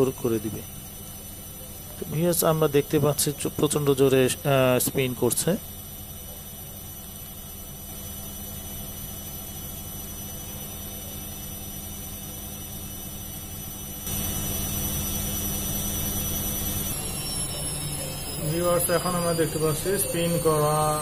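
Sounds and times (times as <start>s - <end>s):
spinning drum hum: 0.0s - 21.0s
washing machine motor whine: 0.0s - 21.0s.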